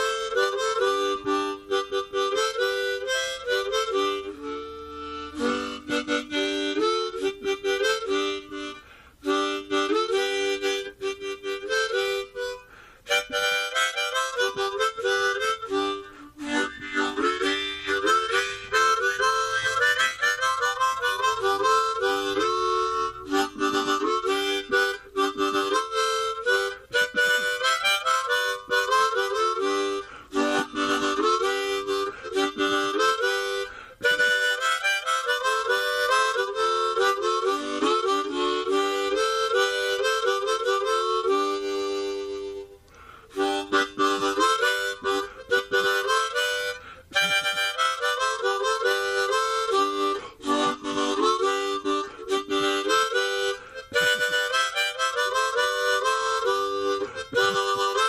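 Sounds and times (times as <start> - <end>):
harmonica playing rhythmic chords: 0.0 - 58.0.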